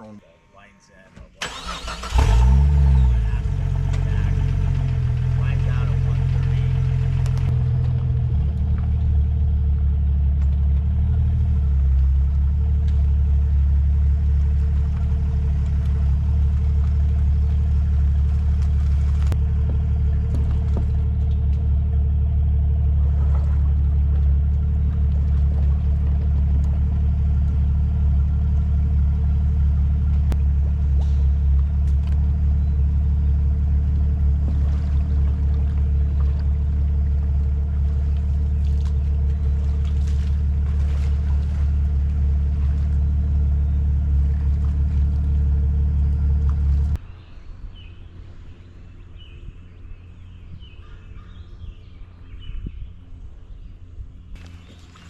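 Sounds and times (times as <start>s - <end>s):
outboard motor idling: 1.4s - 55.0s.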